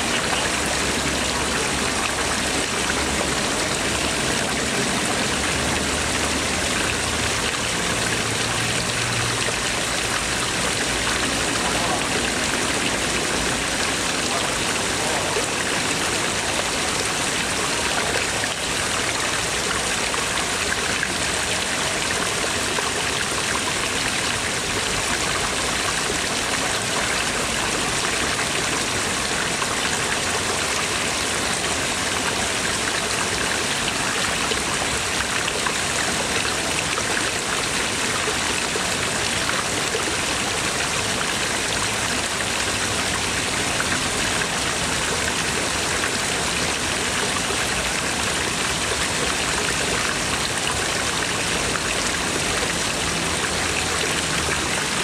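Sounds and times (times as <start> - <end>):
water jets splashing into pond: 0.0 - 55.0.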